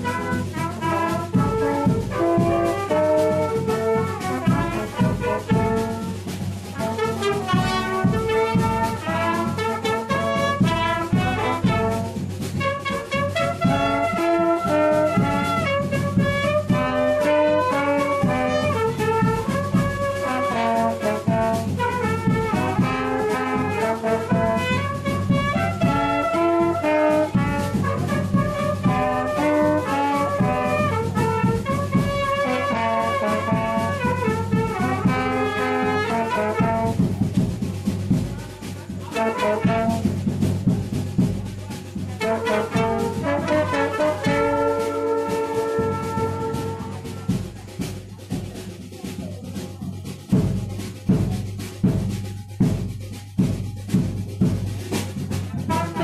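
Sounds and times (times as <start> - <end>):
brass band playing: 0.0 - 49.1, 50.1 - 56.0
drums with bass drum: 0.0 - 56.0.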